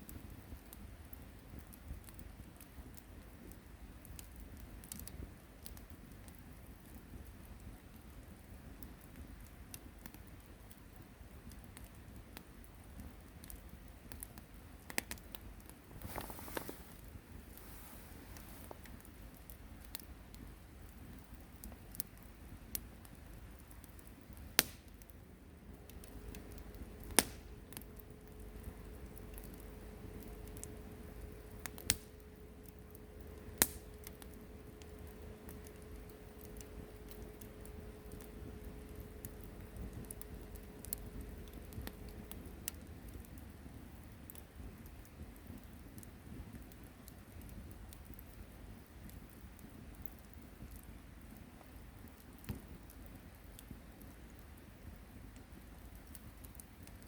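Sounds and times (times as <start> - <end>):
campfire crackling and popping: 0.0 - 57.0
low fire rumble: 0.0 - 57.0.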